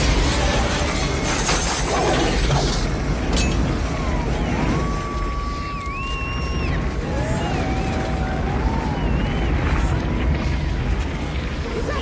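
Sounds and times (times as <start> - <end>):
debris crashing and breaking: 0.0 - 12.0
tornado wind roaring: 0.0 - 12.0.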